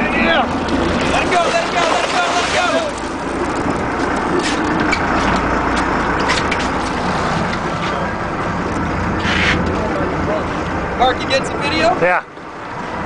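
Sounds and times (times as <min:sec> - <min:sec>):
boat engines running: 0:00.0 - 0:13.0
wind and water noise: 0:00.0 - 0:13.0.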